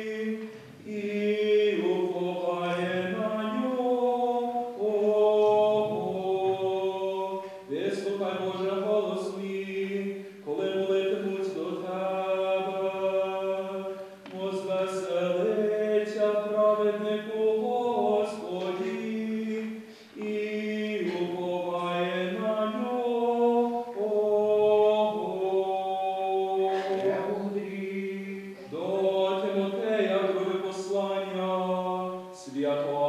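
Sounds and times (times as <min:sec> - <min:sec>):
children singing a chant: 0:03.8 - 0:15.9, 0:17.6 - 0:33.0.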